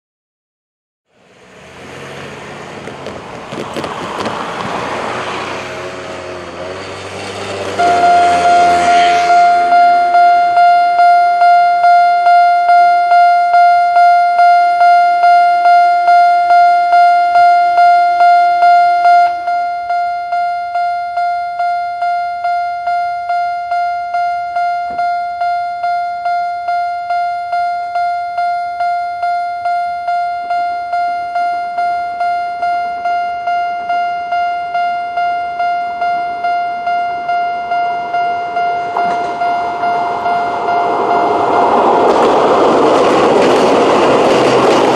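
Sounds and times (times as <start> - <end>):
level crossing alarm tone: 7.6 - 44.9.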